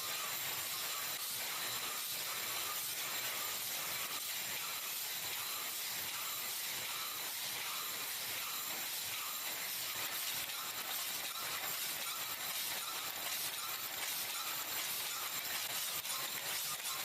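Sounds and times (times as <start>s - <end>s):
factory machinery hissing: 0.0s - 17.0s.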